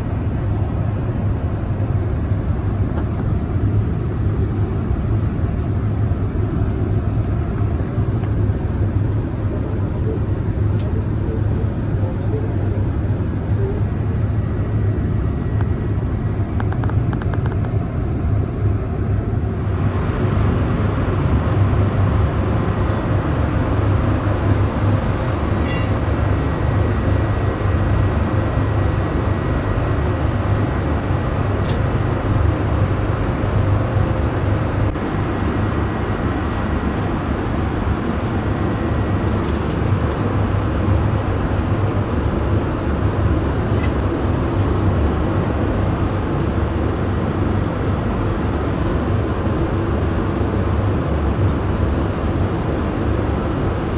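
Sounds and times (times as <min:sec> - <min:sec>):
engines droning: 0:00.0 - 0:53.9.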